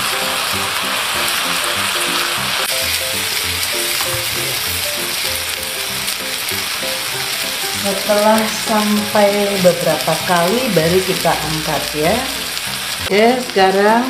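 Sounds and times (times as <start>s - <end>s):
background music: 0.0s - 13.5s
fish sizzling in grill pan: 0.0s - 14.0s.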